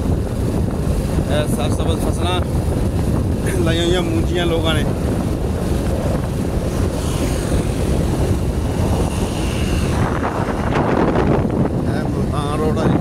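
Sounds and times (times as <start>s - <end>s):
vehicle rumble at road speed: 0.0s - 13.0s
wind rushing over microphone: 0.0s - 13.0s.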